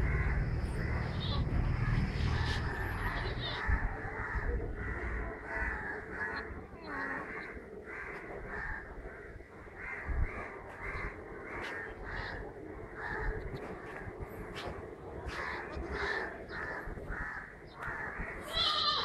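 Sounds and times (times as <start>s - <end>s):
crows cawing: 0.0s - 19.0s.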